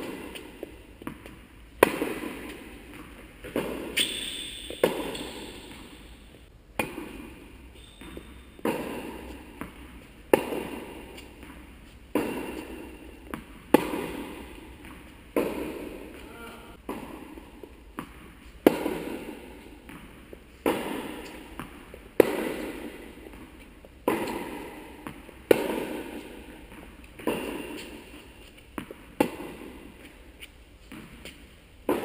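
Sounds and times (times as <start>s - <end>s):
tennis ball hit by racket: 0.0s - 6.0s, 6.8s - 16.2s, 16.8s - 30.1s, 30.9s - 32.0s
tennis ball bouncing on hard court: 0.0s - 32.0s.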